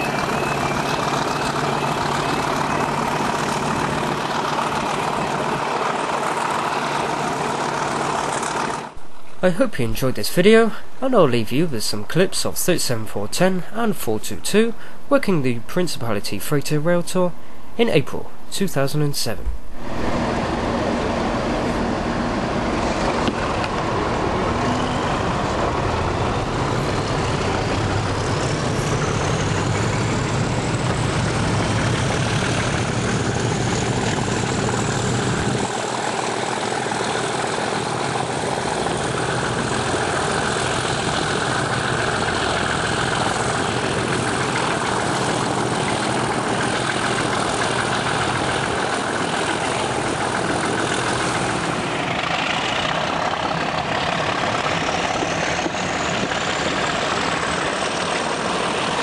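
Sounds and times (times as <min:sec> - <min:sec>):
diesel locomotive engines: 0:00.0 - 0:59.0.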